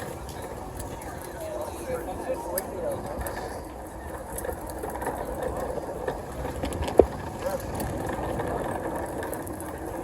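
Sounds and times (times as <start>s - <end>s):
chatter of many voices: 0.0s - 10.0s.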